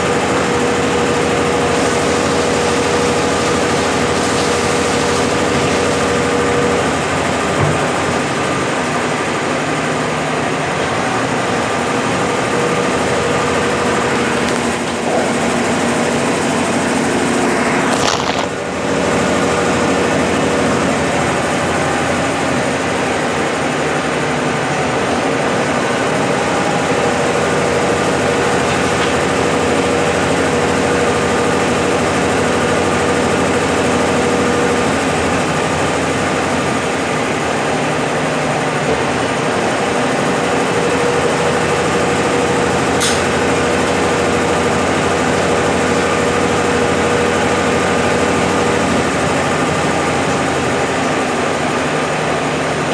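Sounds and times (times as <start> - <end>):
washing machine spinning: 0.0 - 52.9.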